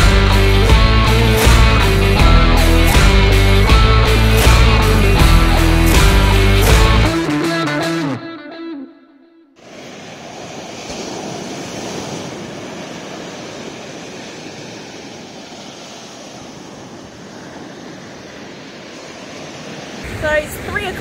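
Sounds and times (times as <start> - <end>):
ocean waves breaking on beach: 0.0 - 7.4, 9.6 - 21.0.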